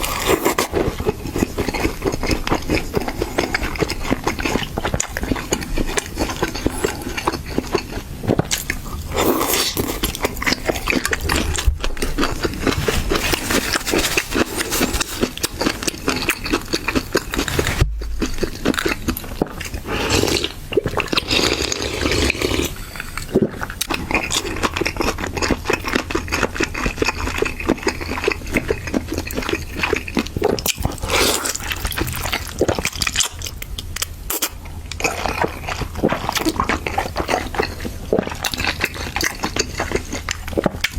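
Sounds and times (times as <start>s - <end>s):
wet chewing and smacking: 0.0s - 40.9s.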